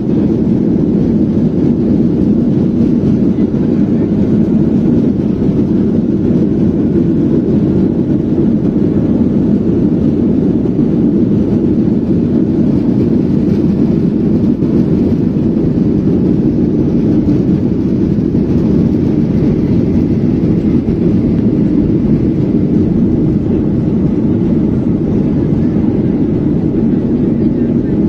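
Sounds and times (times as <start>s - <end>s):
airplane cabin rumble: 0.0s - 28.0s.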